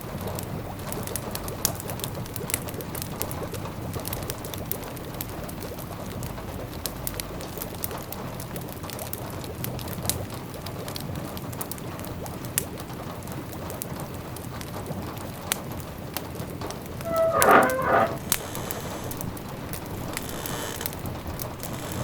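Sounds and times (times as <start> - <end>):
soft patter of rain: 0.0 - 22.0.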